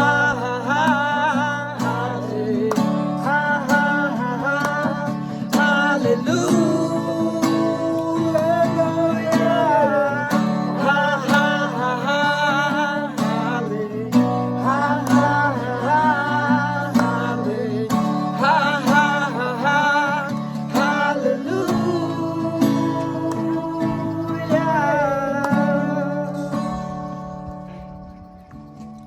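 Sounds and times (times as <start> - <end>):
acoustic guitar chords: 0.0 - 29.0.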